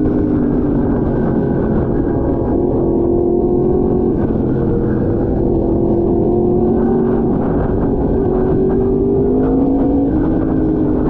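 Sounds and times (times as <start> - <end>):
motorcycle engine cruising: 0.0 - 11.0
wind rushing: 0.0 - 11.0.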